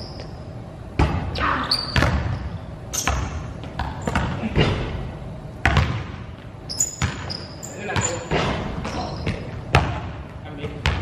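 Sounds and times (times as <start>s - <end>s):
sneaker squeaks: 0.0s - 5.0s, 5.7s - 11.0s
basketballs bouncing on gym floor: 0.9s - 11.0s.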